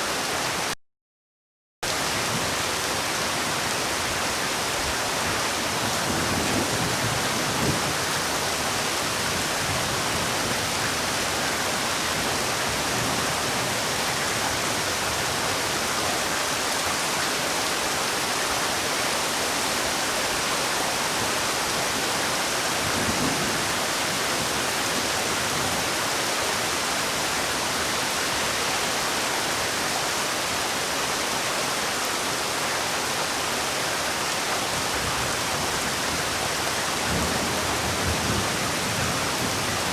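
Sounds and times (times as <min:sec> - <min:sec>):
heavy rain falling: 0:00.0 - 0:00.8, 0:01.8 - 0:39.9.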